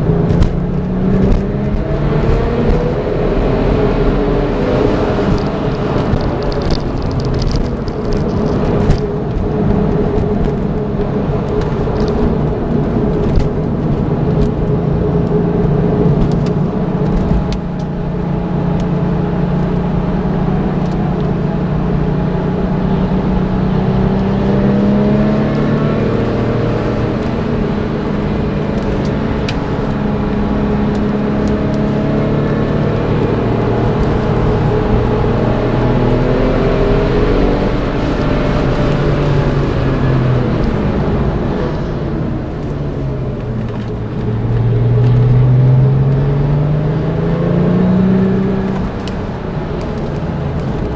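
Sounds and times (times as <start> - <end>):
car engine running hard: 0.0 - 50.9
tyre and wind noise: 0.0 - 50.9.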